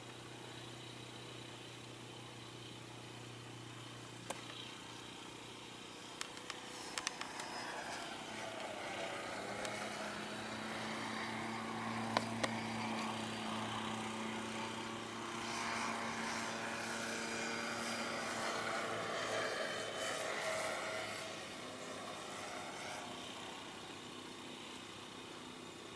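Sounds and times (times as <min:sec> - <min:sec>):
model airplane motor droning: 0:00.0 - 0:25.9.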